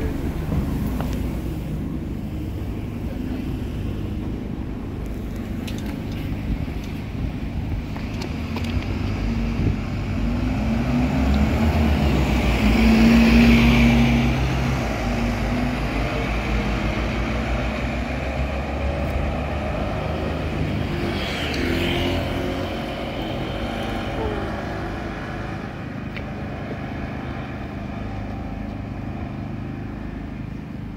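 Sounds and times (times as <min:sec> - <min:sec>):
diesel bus engine running: 0:00.0 - 0:20.9, 0:22.0 - 0:30.9
street traffic: 0:00.0 - 0:30.9.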